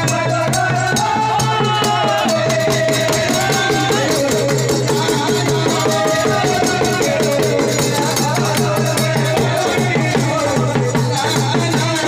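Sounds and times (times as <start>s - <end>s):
hand-beaten drum: 0.0s - 12.0s.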